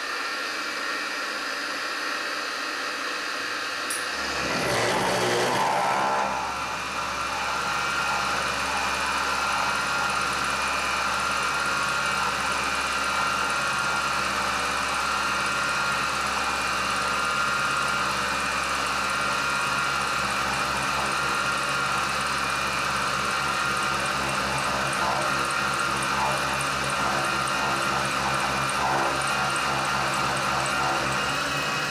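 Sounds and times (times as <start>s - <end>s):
milling machine cutting metal: 3.5s - 31.9s.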